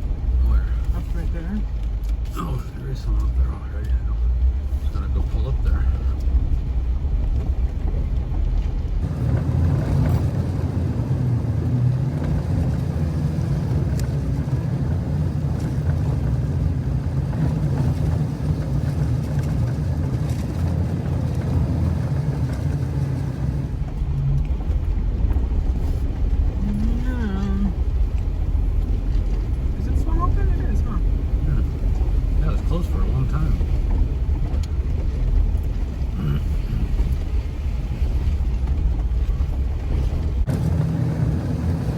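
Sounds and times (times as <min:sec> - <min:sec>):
tyres on dirt trail: 0:00.0 - 0:41.9
vehicle engine rumble: 0:00.0 - 0:41.9.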